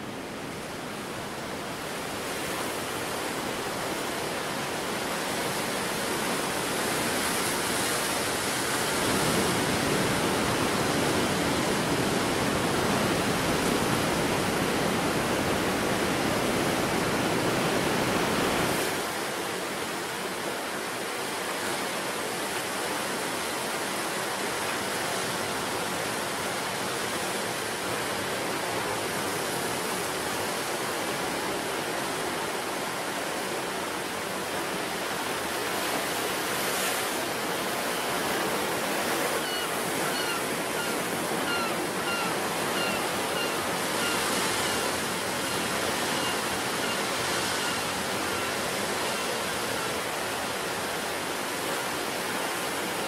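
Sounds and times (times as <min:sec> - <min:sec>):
sea surf washing on shore: 0:00.0 - 0:53.0.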